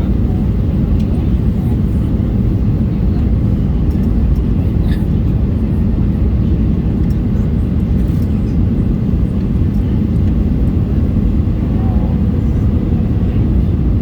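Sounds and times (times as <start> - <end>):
airplane cabin engine roar: 0.0 - 14.0.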